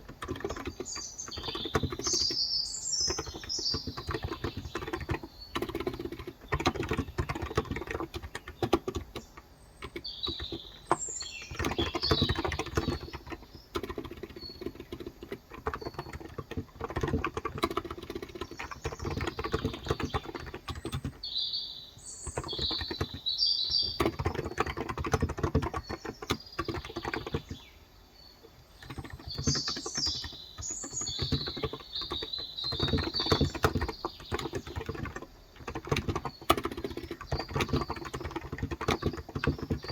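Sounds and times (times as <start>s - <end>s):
fast keyboard typing: 0.0s - 21.4s, 22.1s - 27.7s, 28.5s - 39.9s
birds chirping: 0.0s - 39.9s.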